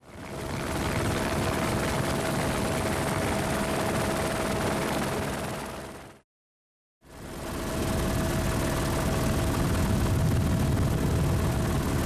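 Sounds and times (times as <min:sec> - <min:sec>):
helicopter rotor and engine: 0:00.0 - 0:06.2, 0:07.1 - 0:12.0.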